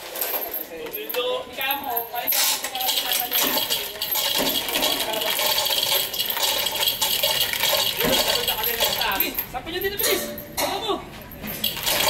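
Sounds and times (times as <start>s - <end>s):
steel chains clinking and rattling: 0.0s - 12.0s.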